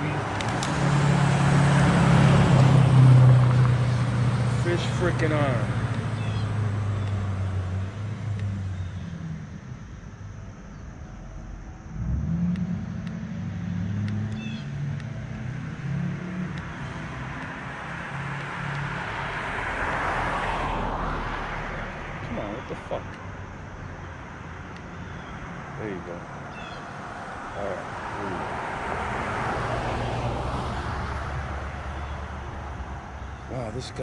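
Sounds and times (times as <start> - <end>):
car passing on road: 0.0 - 34.0
low engine hum: 0.0 - 34.0.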